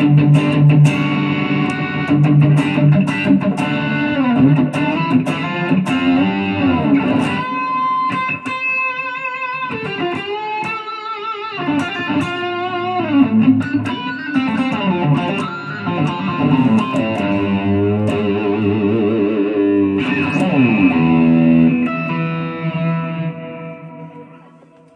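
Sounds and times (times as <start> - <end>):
electric guitar lead line: 0.0 - 24.9.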